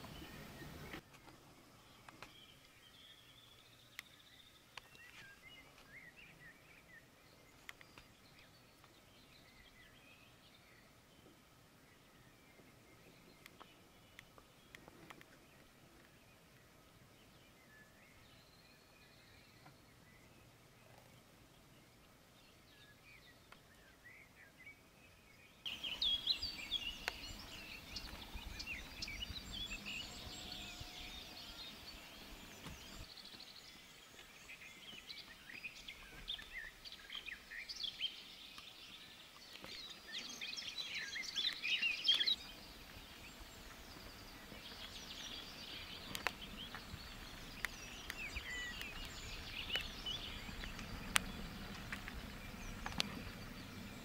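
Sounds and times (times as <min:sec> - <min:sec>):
wild birds singing and chirping: 0:00.0 - 0:54.0.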